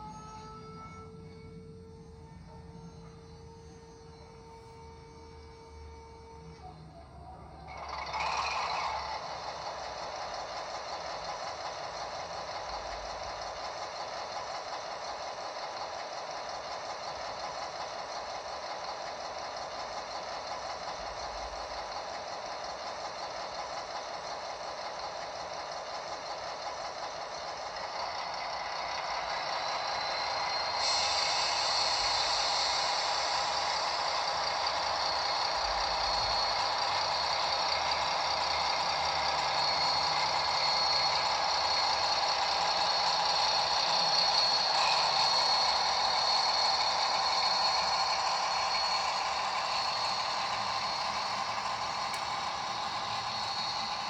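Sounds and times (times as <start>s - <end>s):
model diesel locomotive running: 0.0s - 54.0s.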